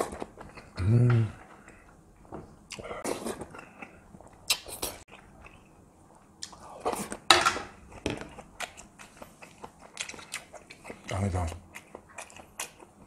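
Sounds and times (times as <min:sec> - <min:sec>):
man chewing and smacking: 0:00.0 - 0:13.0.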